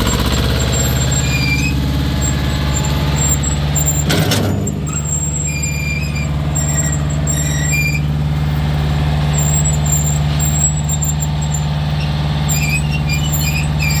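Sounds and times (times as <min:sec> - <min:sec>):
high-pitched squeaks: 0:00.0 - 0:08.7, 0:09.3 - 0:14.0
tractor engine running: 0:00.0 - 0:14.0.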